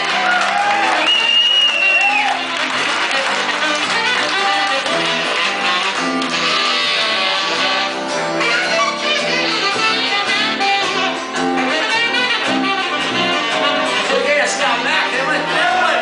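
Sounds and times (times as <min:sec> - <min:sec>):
electric guitar: 0:00.0 - 0:16.0
live band playing: 0:00.0 - 0:16.0.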